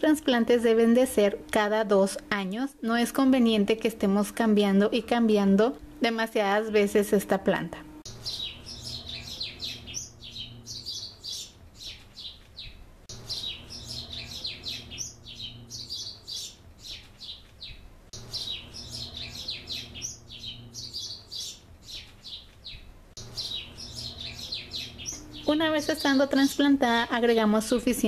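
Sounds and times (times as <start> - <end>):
birds chirping: 0.0 - 28.0
low steady hum: 0.0 - 28.0.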